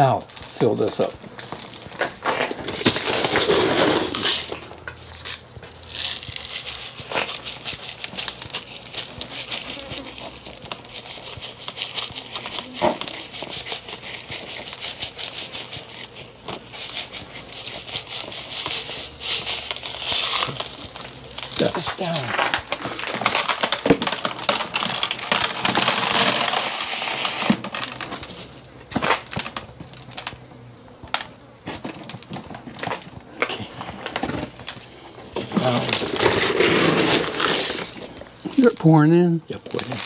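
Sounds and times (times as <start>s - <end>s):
salt grains crackling: 0.0s - 40.0s.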